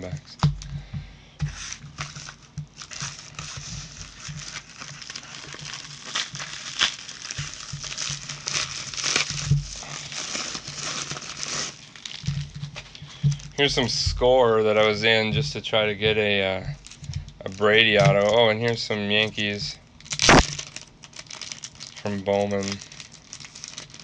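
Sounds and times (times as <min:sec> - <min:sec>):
padded mailer crinkling: 0:01.5 - 0:24.0.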